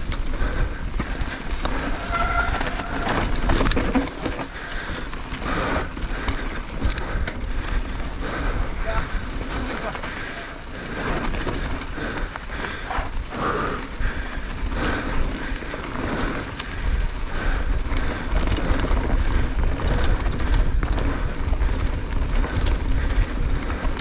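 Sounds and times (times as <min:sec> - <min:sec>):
bike rattling clicks and knocks: 0:00.0 - 0:24.0
tyre noise on dirt: 0:00.0 - 0:24.0
wind rumble on microphone: 0:00.0 - 0:24.0.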